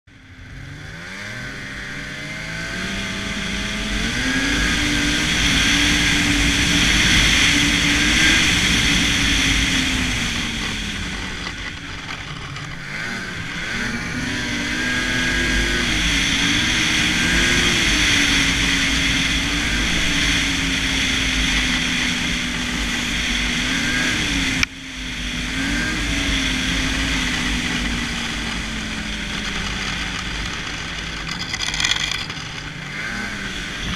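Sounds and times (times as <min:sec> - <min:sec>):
snowmobile engine revving: 0:00.4 - 0:33.9.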